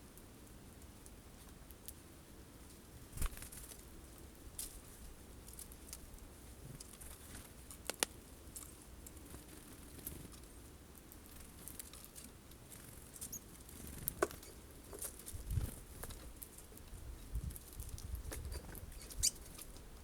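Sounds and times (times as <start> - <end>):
birds pecking at seeds: 0.1 - 20.0.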